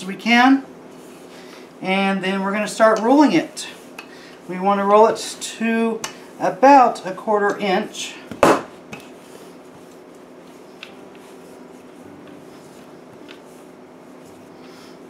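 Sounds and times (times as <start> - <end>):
rolling pin rubbing on dough: 0.0 - 15.0
steady low hum: 0.0 - 15.0.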